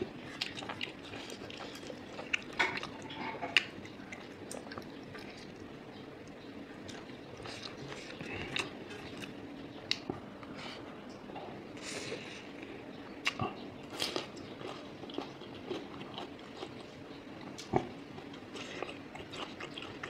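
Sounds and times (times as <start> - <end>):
chewing rice: 0.0 - 10.9, 11.8 - 20.0.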